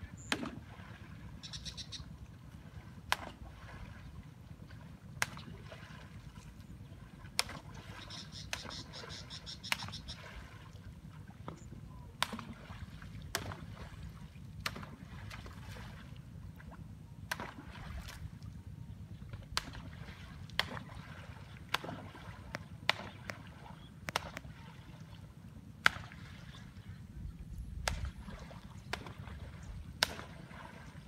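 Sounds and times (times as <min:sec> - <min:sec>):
pole slapping water: 0:00.1 - 0:26.9, 0:27.6 - 0:31.0.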